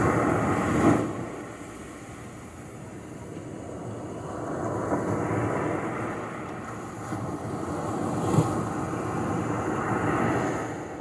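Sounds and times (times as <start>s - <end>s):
small waves washing onto beach: 0.0s - 11.0s.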